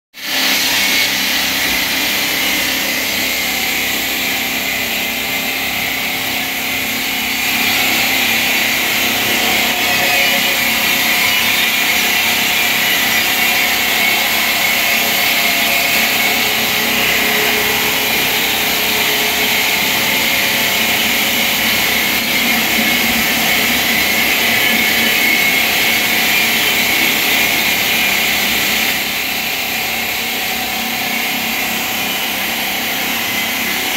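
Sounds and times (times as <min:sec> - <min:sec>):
stone-cutting machine grinding: 0:00.2 - 0:33.9.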